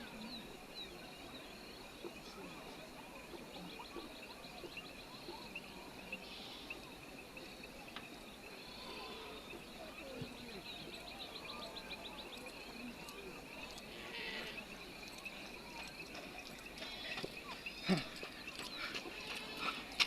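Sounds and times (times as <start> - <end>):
bird chirps: 0.0 - 20.0
high insect drone: 0.0 - 20.0.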